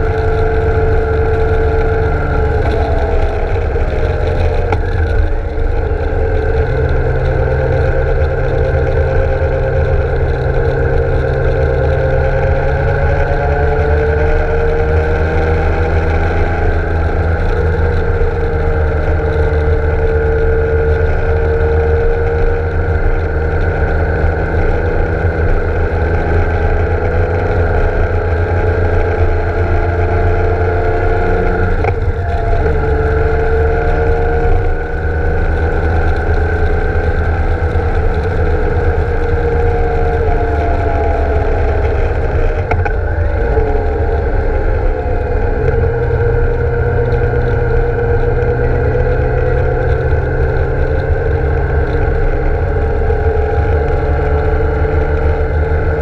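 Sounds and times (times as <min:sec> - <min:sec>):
low rumble: 0:00.0 - 0:56.0
motorcycle engine cruising: 0:00.0 - 0:56.0.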